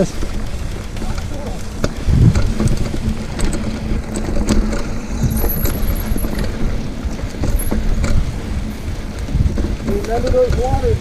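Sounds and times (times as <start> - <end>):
bike clicking and rattling: 0.0 - 11.0
bike tyres rumbling on dirt: 0.0 - 11.0
wind on microphone: 0.0 - 11.0.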